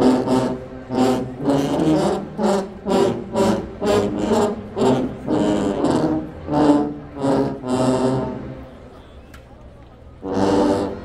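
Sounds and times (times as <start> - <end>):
marching band playing: 0.0 - 9.1, 10.2 - 11.0.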